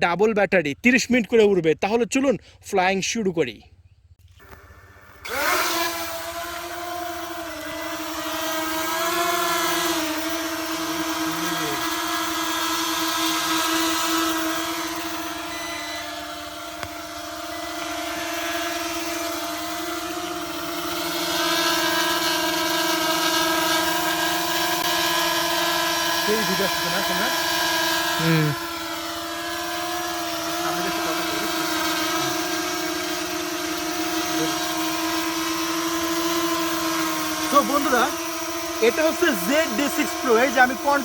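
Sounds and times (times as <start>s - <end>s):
drone propellers buzzing hum: 4.2s - 41.0s.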